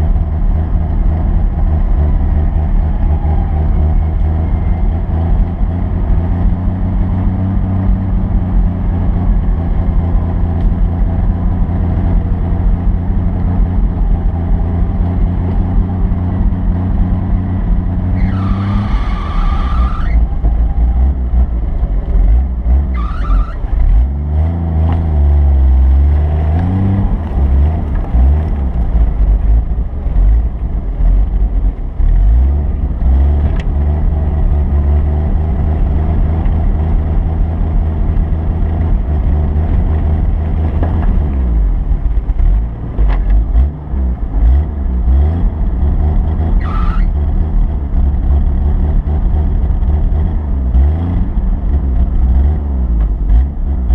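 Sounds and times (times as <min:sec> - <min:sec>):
vehicle engine revving: 0:00.0 - 0:53.9.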